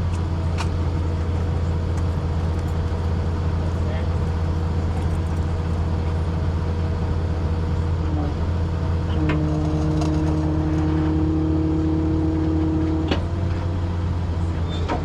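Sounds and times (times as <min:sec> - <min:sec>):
truck engine idling: 0:00.0 - 0:10.7, 0:12.8 - 0:15.0.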